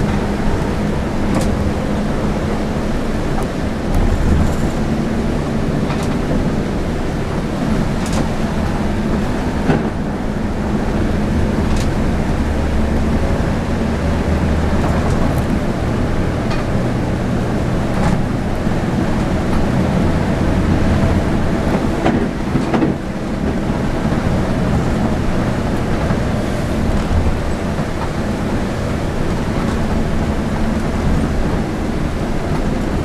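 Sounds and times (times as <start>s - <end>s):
bus engine and tyre noise: 0.0s - 33.0s.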